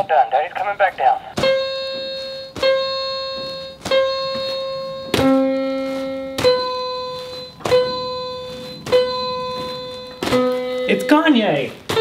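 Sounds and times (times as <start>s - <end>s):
synthesized piano notes: 1.2s - 12.0s.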